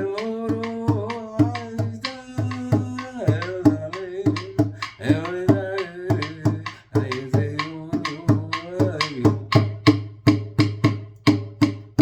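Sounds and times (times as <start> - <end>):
man singing: 0.0 - 10.0
hand drum beating: 0.0 - 12.0.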